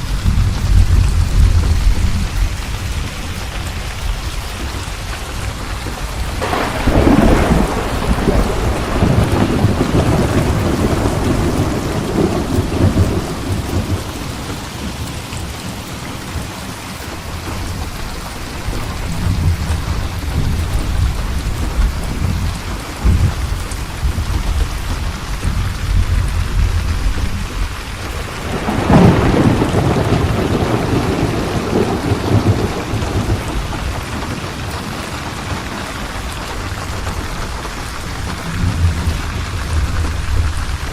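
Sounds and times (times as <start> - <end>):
rolling thunder: 0.0 - 15.8, 17.2 - 40.9
steady rain: 0.0 - 40.9.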